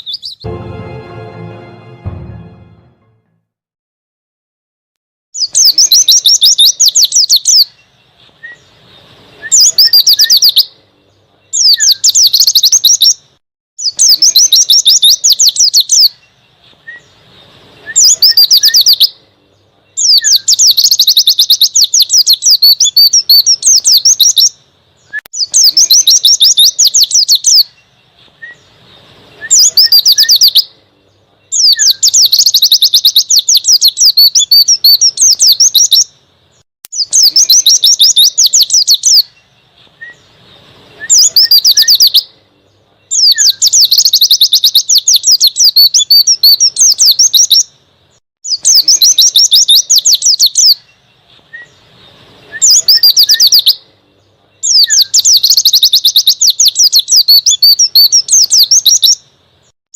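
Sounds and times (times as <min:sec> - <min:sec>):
bird chattering song: 0:00.0 - 0:00.5, 0:05.4 - 0:47.8, 0:48.4 - 0:59.4.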